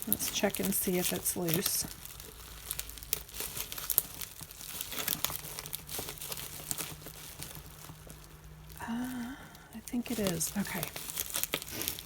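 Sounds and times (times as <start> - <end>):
packaging wrap crinkling: 0.0 - 12.0.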